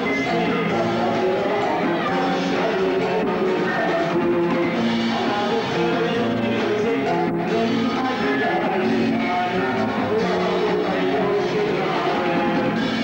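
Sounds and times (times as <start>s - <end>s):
drum kit: 0.0s - 13.0s
electric guitar: 0.0s - 13.0s
man singing into microphone: 0.0s - 13.0s.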